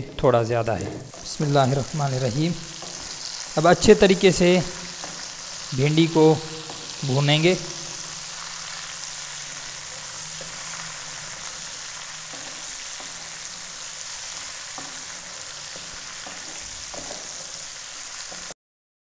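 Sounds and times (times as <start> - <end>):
okra sizzling in oil: 0.2 - 18.6
wooden spatula scraping pot: 0.7 - 3.9, 4.7 - 5.7, 6.6 - 18.5.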